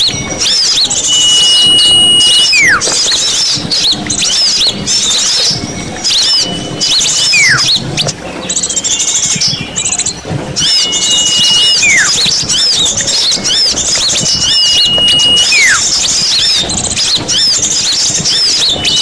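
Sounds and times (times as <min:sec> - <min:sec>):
falling whistle: 0:00.0 - 0:08.1, 0:10.6 - 0:19.0
songbirds chirping and trilling: 0:00.0 - 0:19.0.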